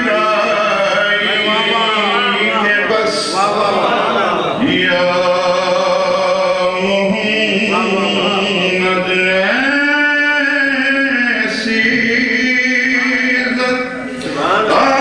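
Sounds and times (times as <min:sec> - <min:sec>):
man chanting devotional verse: 0:00.0 - 0:15.0.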